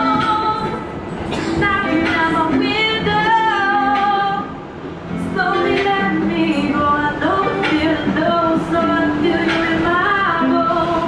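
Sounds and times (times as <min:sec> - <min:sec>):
woman singing: 0:00.0 - 0:00.9, 0:01.5 - 0:11.0.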